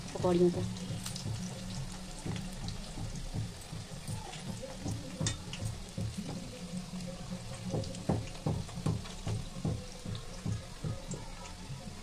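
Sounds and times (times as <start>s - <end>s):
pakoras sizzling in hot oil: 0.0s - 12.0s.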